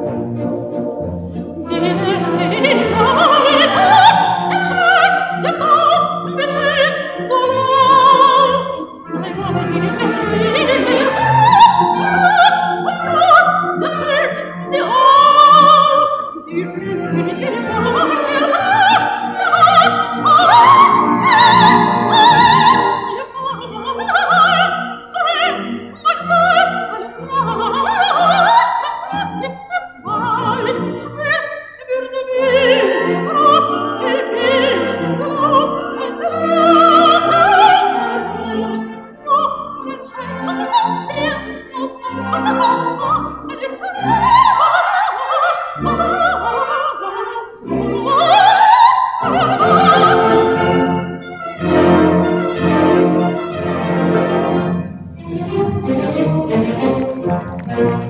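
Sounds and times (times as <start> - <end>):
orchestral accompaniment: 0.0 - 31.4, 32.3 - 58.0
operatic singing with vibrato: 0.0 - 58.0.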